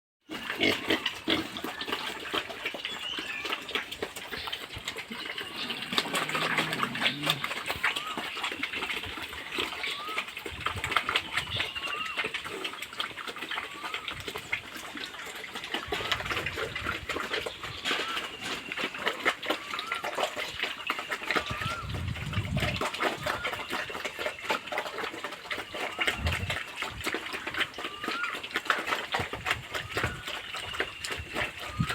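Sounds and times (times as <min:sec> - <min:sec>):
pigs grunting: 0:00.3 - 0:31.9
splashing: 0:00.3 - 0:31.9.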